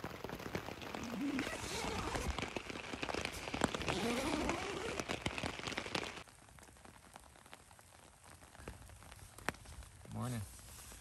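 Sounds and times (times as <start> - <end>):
rain pattering on tent fabric: 0.0 - 11.0.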